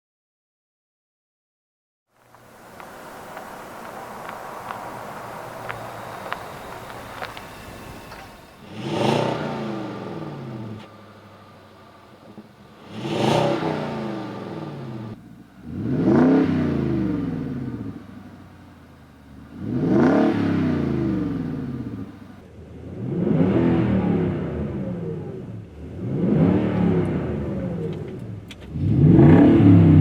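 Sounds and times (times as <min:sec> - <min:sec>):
car engine revving: 0:02.2 - 0:30.0.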